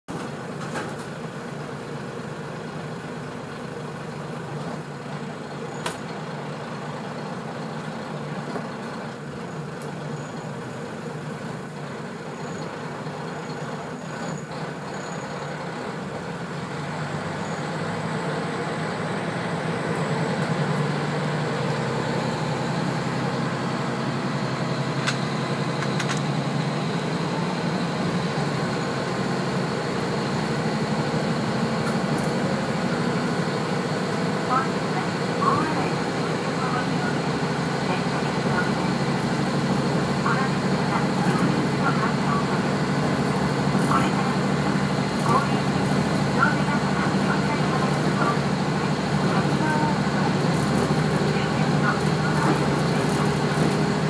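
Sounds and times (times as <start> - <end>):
railcar diesel engine: 0.0 - 54.0.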